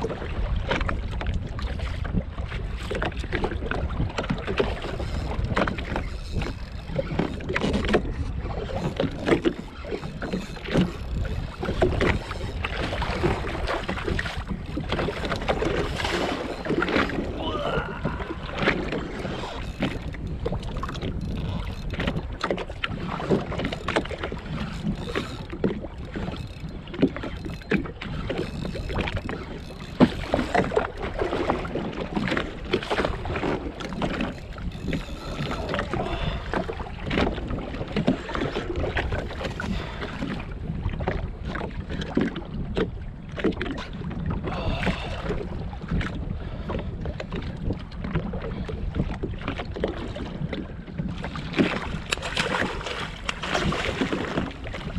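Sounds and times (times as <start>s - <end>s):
water slapping against hull: 0.0s - 54.9s
wind buffeting microphone: 0.0s - 54.9s.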